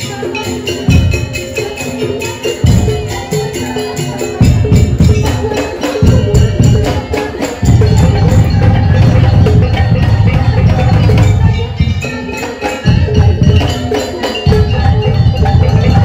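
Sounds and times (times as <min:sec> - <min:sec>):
percussion ensemble playing: 0:00.0 - 0:16.0.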